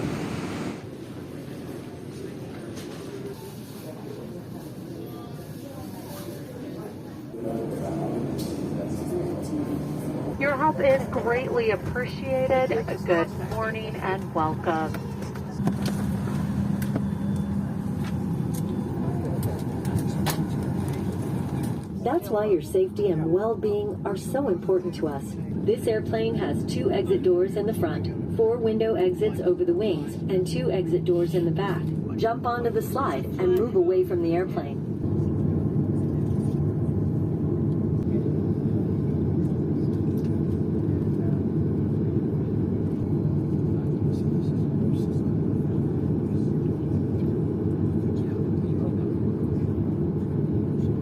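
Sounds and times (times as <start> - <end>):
jet engines running: 0.0 - 3.4, 7.2 - 22.0, 25.2 - 51.0
aircraft cabin rumble: 0.0 - 22.0, 29.4 - 51.0
air-conditioning blowing: 0.0 - 51.0.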